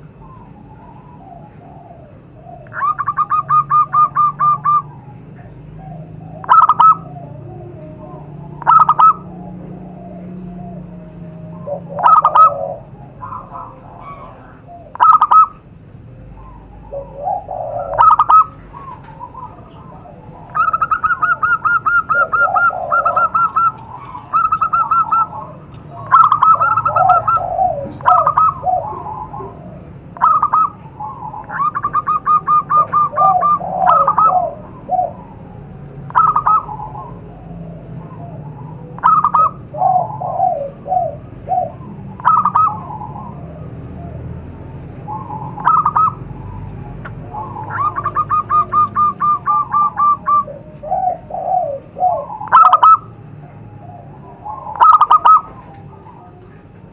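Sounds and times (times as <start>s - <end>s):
doves cooing: 0.0s - 56.9s.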